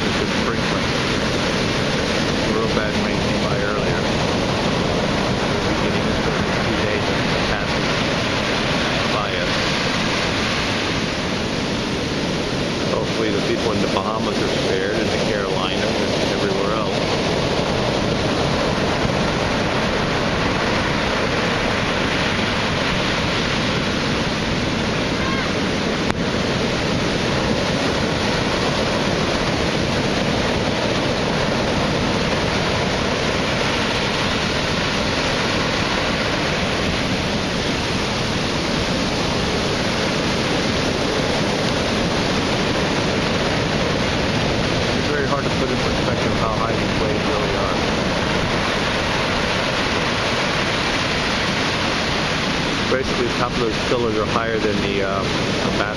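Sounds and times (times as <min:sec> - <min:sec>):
heavy surf breaking: 0:00.0 - 0:55.9
wind on microphone: 0:00.0 - 0:55.9.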